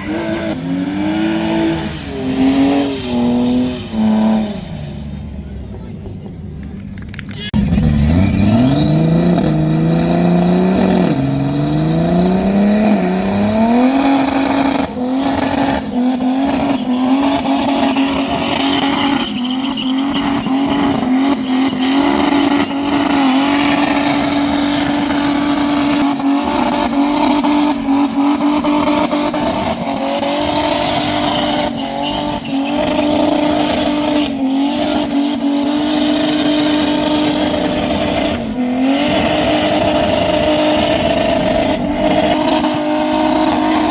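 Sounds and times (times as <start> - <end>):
muscle car engine revving: 0.0 - 6.1, 7.0 - 43.9.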